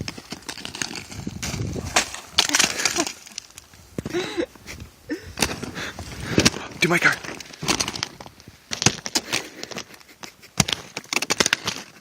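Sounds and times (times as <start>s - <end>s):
ice crust cracking and crunching: 0.0s - 12.0s.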